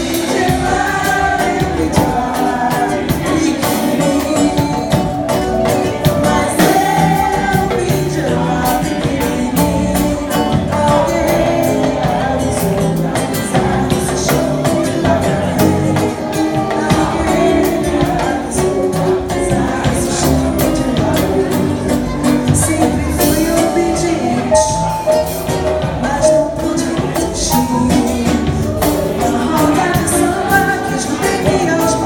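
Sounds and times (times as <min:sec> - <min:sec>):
person singing: 0:00.0 - 0:32.0
steady percussion beat: 0:00.0 - 0:32.0.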